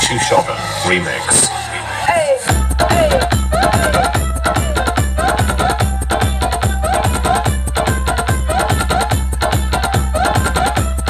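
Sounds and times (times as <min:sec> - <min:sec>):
loud dance music: 0:00.0 - 0:11.0.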